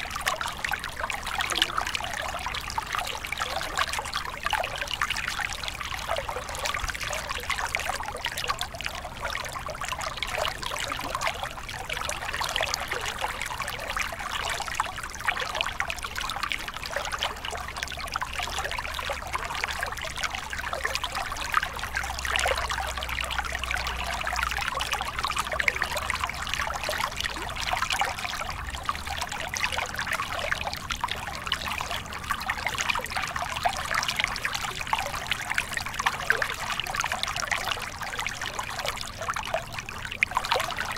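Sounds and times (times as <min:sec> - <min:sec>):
stream water trickling and splashing: 0:00.0 - 0:40.9.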